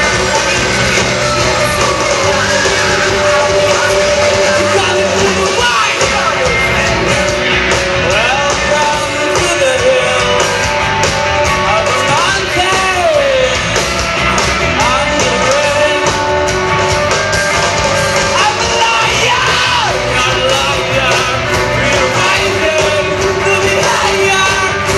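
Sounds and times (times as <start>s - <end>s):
person singing: 0.0s - 10.8s, 11.5s - 13.8s, 14.7s - 16.4s, 18.3s - 24.9s
rock band playing live: 0.0s - 24.9s.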